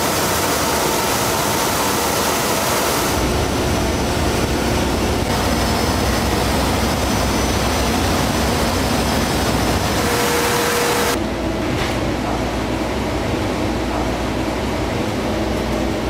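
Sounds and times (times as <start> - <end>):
paper-making machinery running: 0.0 - 16.0.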